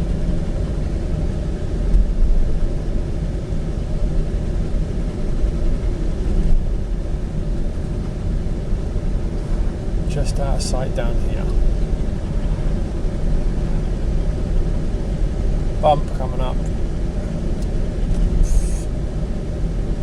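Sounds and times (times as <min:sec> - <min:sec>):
road and engine rumble in car cabin: 0:00.0 - 0:20.0.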